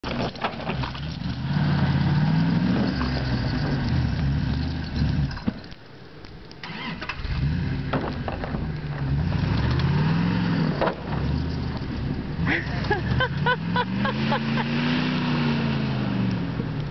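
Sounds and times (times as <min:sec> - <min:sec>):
truck engine revving: 0:00.8 - 0:05.4, 0:06.6 - 0:16.9.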